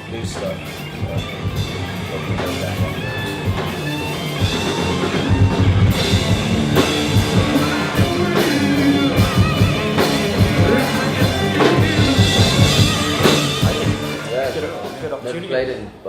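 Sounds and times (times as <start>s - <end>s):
drum kit beat: 0.0s - 15.6s
electric guitar: 0.0s - 15.6s.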